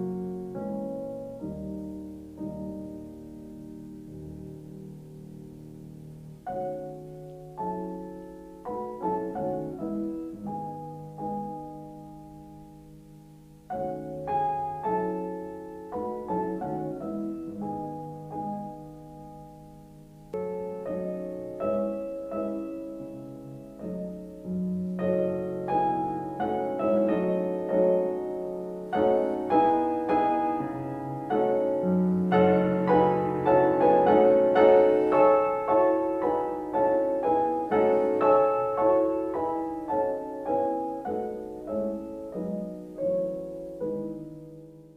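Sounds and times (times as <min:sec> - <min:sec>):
solo piano melody: 0:00.0 - 0:44.9.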